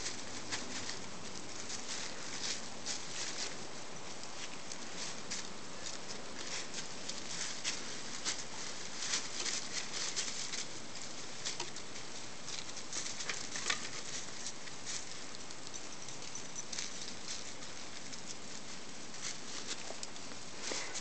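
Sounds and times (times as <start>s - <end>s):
dry leaves rustling: 0.0s - 21.0s.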